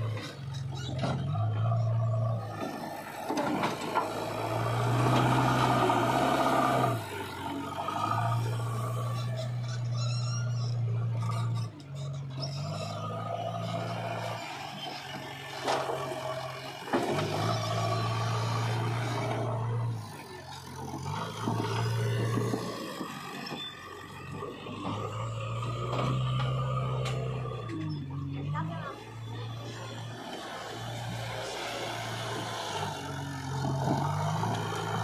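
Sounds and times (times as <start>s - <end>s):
diesel engine under load: 0.0s - 35.0s.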